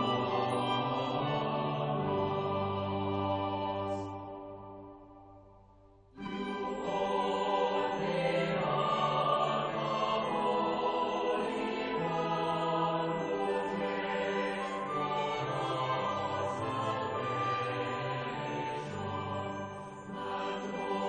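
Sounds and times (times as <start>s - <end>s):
choir singing long notes: 0.0s - 5.5s, 6.1s - 21.0s.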